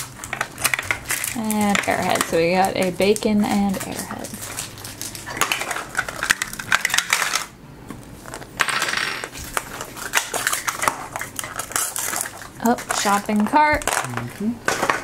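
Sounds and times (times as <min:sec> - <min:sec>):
plastic pieces clicking and clattering: 0:00.0 - 0:07.5, 0:08.6 - 0:15.0
plastic wrapper crinkling: 0:00.0 - 0:07.6, 0:09.3 - 0:15.0.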